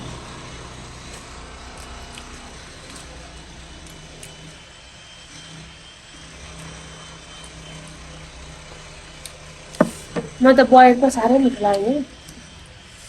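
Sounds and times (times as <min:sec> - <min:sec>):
construction machine engine humming: 0:00.0 - 0:13.0.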